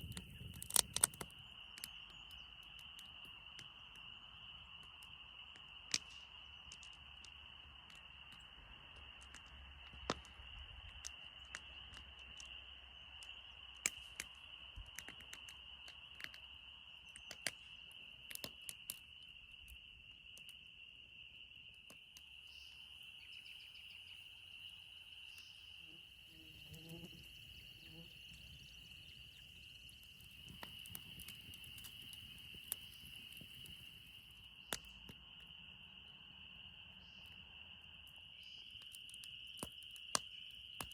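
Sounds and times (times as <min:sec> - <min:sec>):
spring peepers trilling: 0:00.0 - 0:09.3, 0:11.1 - 0:40.9.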